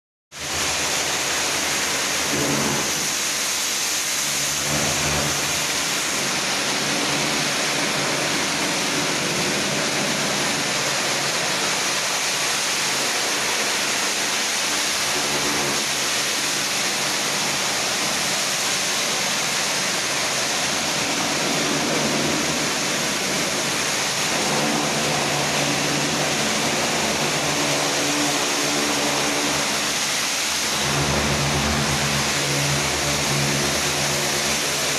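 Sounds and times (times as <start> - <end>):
pressure washer spray hiss: 0.4 - 34.9.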